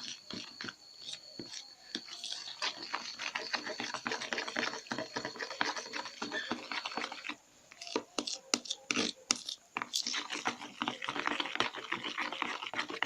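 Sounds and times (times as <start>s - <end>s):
spoon stirring and scraping slime: 0.0s - 13.0s.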